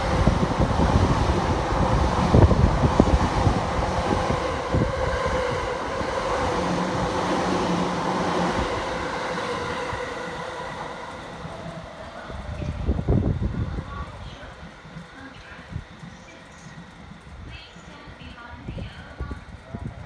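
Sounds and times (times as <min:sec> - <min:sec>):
steady train whine: 0:00.0 - 0:20.0.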